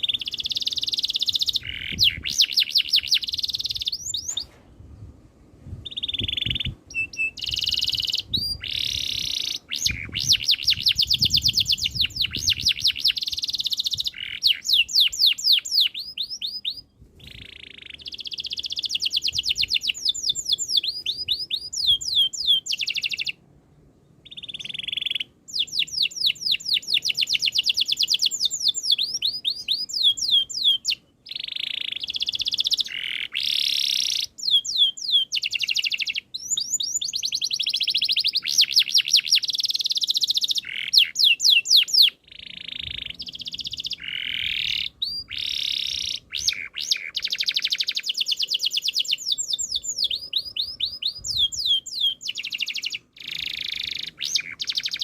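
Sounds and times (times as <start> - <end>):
canary singing trills: 0.0 - 4.5, 5.8 - 23.4, 24.1 - 55.0.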